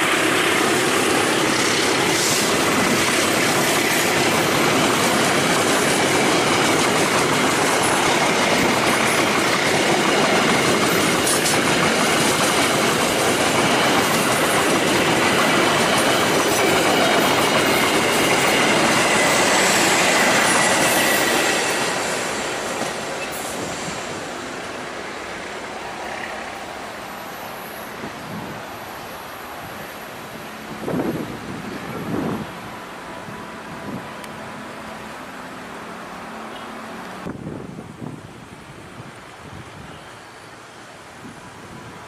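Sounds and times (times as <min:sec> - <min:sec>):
train wheels rumbling on rail: 0:00.0 - 0:36.2.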